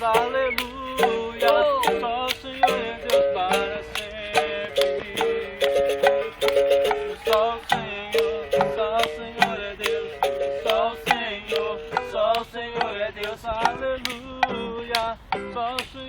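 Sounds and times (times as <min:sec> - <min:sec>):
agogo bells: 0:00.0 - 0:13.8
berimbau: 0:00.0 - 0:15.7
acoustic guitar: 0:00.0 - 0:16.0.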